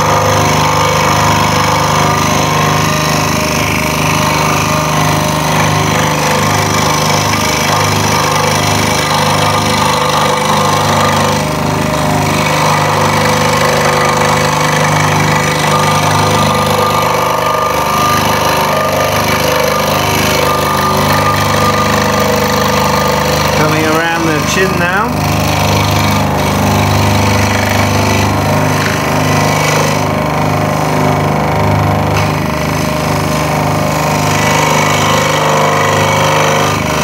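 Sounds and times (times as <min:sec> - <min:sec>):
motor hum: 0:00.0 - 0:37.0.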